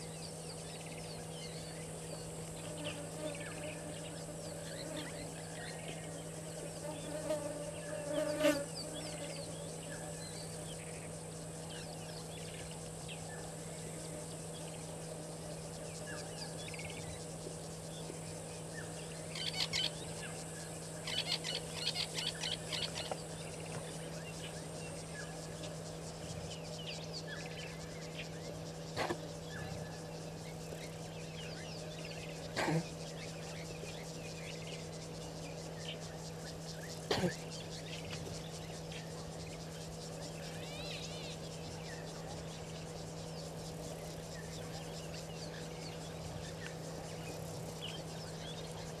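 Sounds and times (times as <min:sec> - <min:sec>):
high insect drone: 0:00.0 - 0:49.0.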